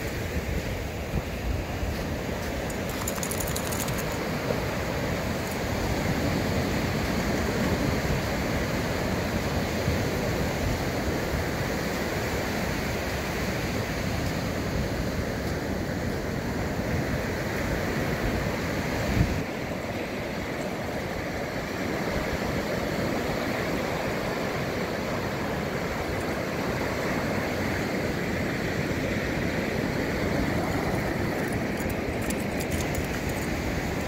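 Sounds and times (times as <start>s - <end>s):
ocean waves breaking on shore: 0.0s - 34.0s.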